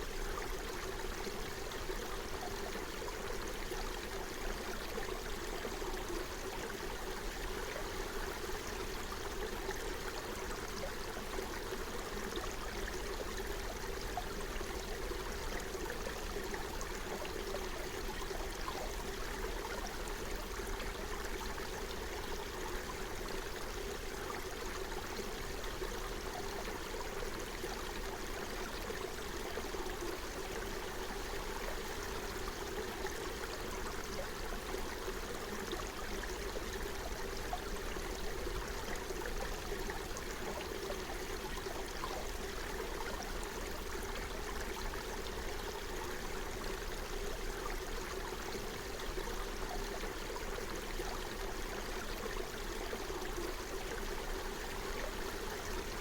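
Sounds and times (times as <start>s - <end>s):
stream flowing over its bed: 0.0s - 56.0s.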